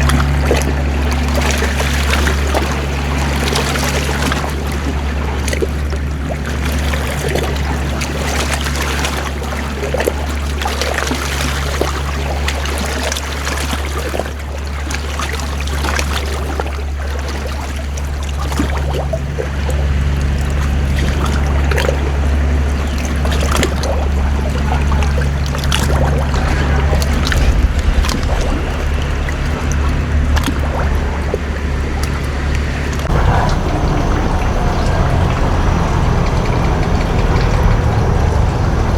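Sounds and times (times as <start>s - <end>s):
boat engine running: 0.0s - 38.9s
water rushing and splashing: 0.0s - 38.9s.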